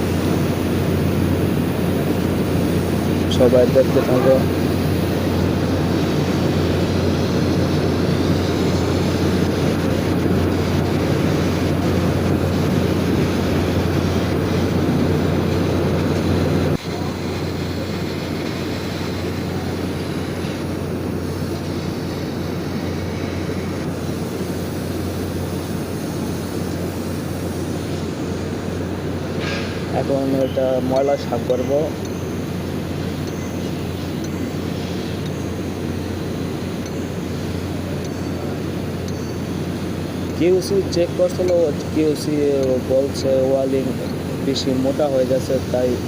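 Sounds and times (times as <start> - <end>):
factory machinery drone: 0.0 - 46.0
low electrical hum: 0.0 - 46.0.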